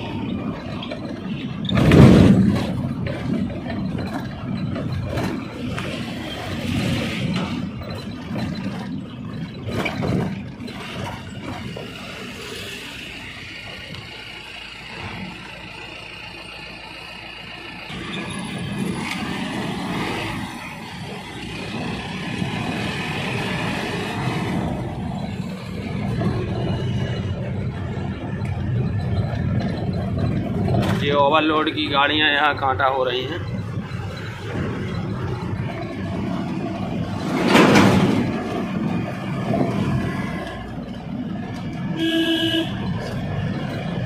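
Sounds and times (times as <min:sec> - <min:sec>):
road noise: 0:00.0 - 0:44.0
truck engine: 0:00.0 - 0:44.0.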